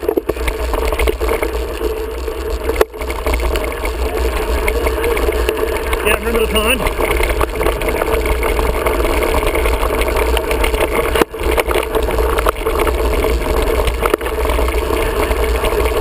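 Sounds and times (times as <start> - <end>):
bike rattling on dirt trail: 0.0 - 16.0
wheels knocking on bumps: 0.0 - 16.0.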